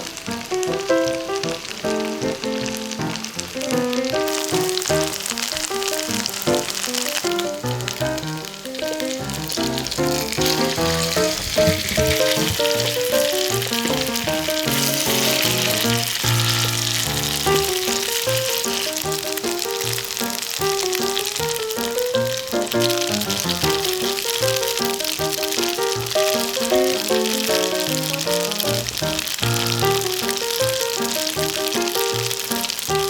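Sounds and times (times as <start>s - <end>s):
background music: 0.0s - 33.0s
food sizzling in hot oil: 0.0s - 33.0s.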